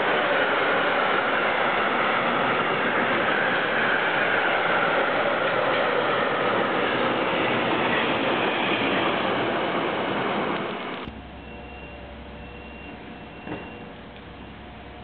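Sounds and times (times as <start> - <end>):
freight train wheels rolling: 0.0 - 15.0.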